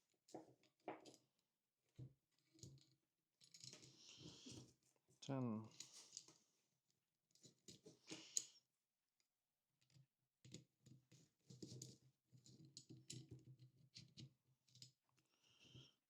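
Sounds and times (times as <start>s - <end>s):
light rattling of small parts: 0.2s - 6.5s, 7.3s - 8.7s, 9.8s - 16.0s
faint clicks of small parts: 0.3s - 4.8s, 5.6s - 6.5s, 7.3s - 8.7s, 9.8s - 16.0s.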